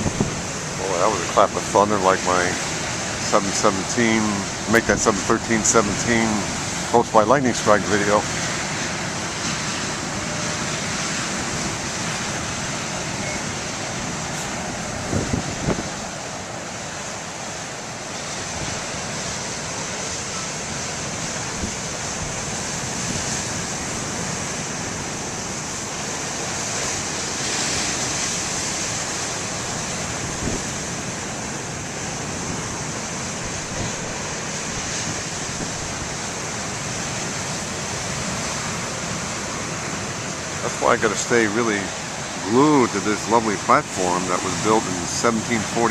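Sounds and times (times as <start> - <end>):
ocean surf breaking: 0.0 - 45.9
wind buffeting microphone: 0.0 - 45.9.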